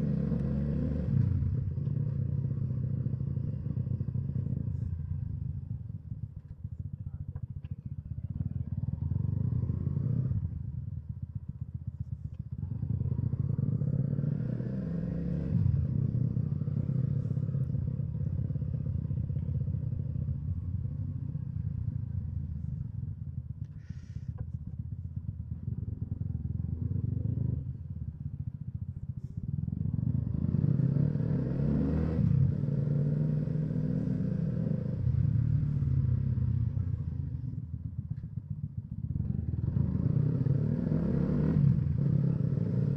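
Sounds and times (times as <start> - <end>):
motorcycle engine accelerating: 0.0 - 6.4, 7.1 - 42.9.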